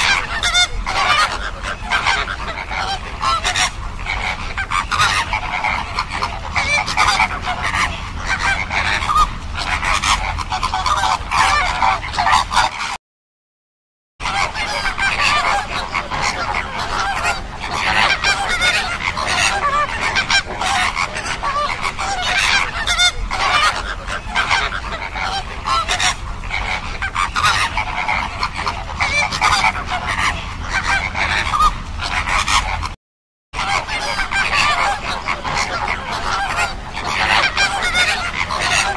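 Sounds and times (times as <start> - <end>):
flamingos honking: 0.0 - 13.0, 14.2 - 33.0, 33.6 - 38.9.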